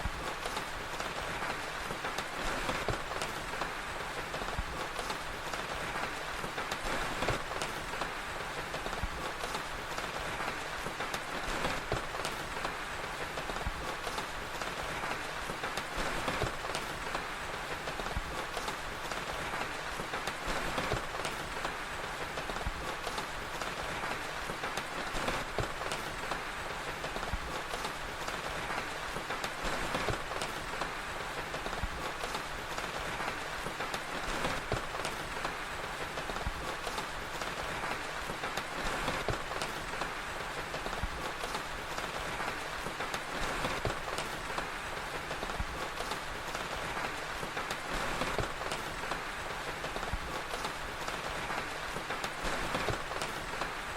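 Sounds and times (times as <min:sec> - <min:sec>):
fire crackling and popping: 0:00.0 - 0:53.9
rain falling: 0:00.0 - 0:53.9.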